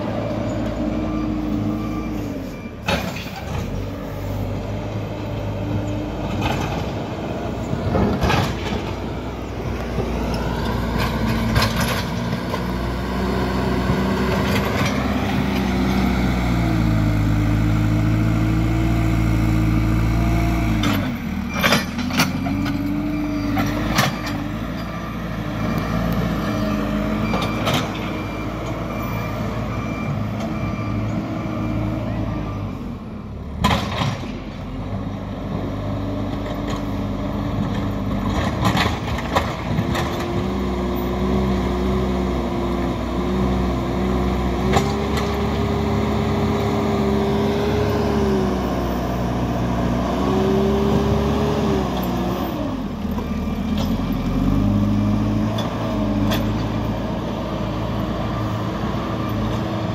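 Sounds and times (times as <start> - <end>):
diesel engine working: 0.0 - 59.9.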